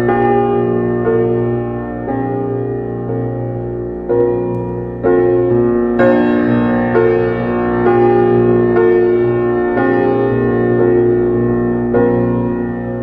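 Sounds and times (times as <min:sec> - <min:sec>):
held keyboard chords: 0:00.0 - 0:13.0.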